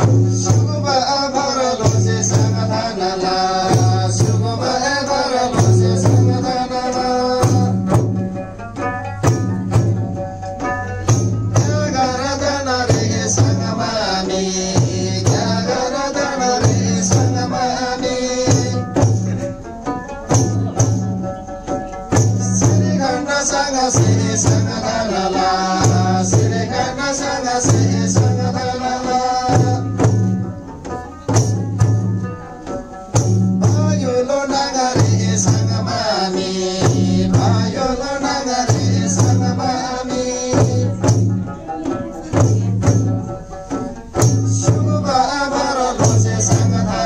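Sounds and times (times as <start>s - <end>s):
group singing in unison: 0.0s - 8.5s, 11.1s - 19.7s, 22.2s - 31.6s, 33.1s - 47.0s
frame drums rhythm: 0.0s - 47.0s.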